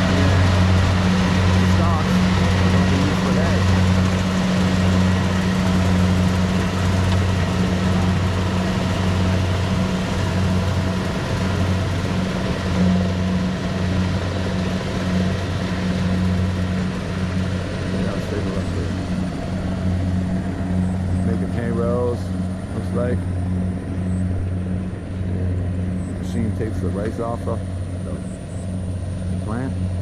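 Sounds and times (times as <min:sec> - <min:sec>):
harvester engine humming: 0:00.0 - 0:30.0.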